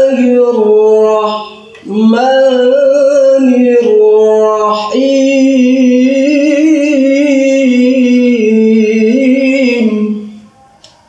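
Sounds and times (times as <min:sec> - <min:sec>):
man chanting melodic recitation: 0:00.0 - 0:10.6.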